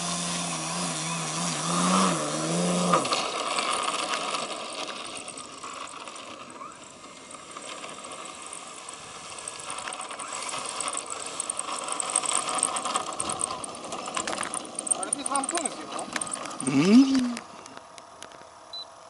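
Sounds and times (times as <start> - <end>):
model plane engine running: 0.0 - 18.7.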